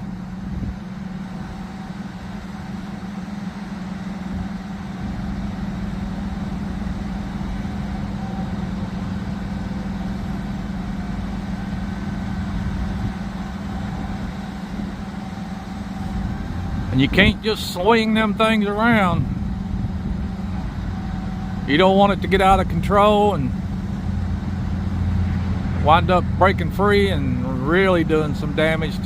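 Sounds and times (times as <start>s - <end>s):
crane engine humming: 0.0s - 29.0s
faint high whine: 0.0s - 29.0s.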